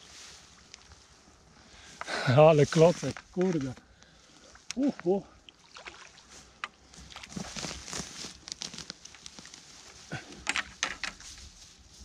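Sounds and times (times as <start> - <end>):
dry grass and reeds rustling: 0.0 - 5.0, 6.1 - 12.0.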